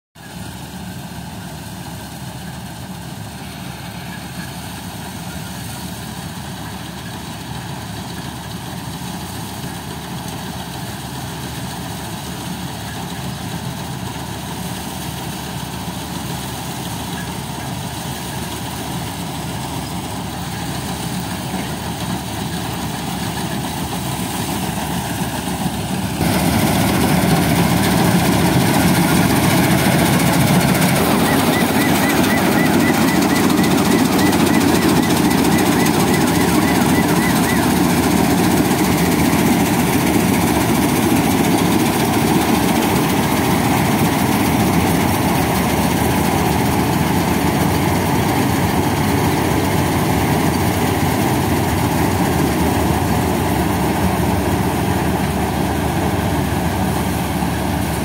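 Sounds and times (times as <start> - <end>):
combine harvester running: 0.2 - 58.0.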